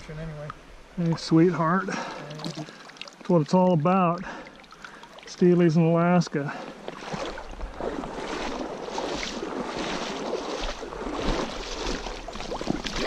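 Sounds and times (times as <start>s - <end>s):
creek water sloshing and splashing: 0.4s - 13.0s.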